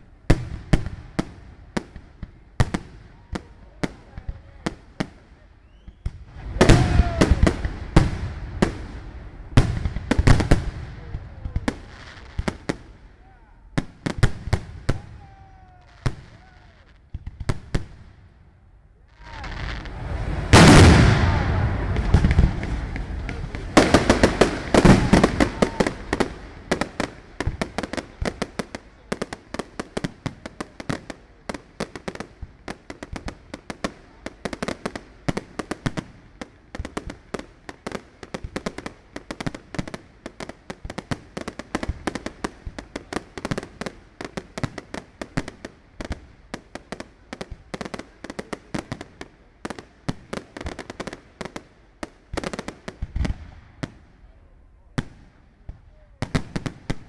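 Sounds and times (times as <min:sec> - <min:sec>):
fireworks crackling: 0:00.0 - 0:54.3, 0:54.9 - 0:57.0.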